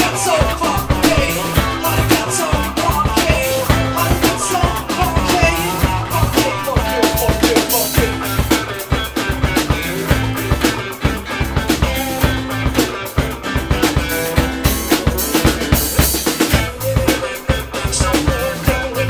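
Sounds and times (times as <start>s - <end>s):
electric bass: 0.0s - 19.0s
funk band playing: 0.0s - 19.0s.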